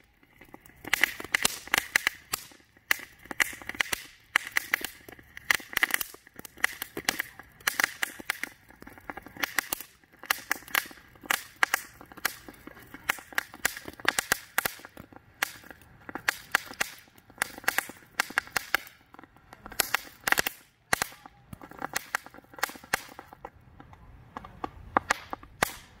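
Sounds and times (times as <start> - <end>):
firework fountain crackling: 0.0 - 26.0.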